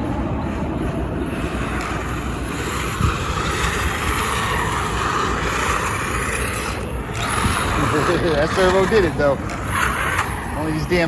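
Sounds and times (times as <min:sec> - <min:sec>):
wind on microphone: 0:00.0 - 0:11.0
rc car motor running: 0:00.8 - 0:11.0.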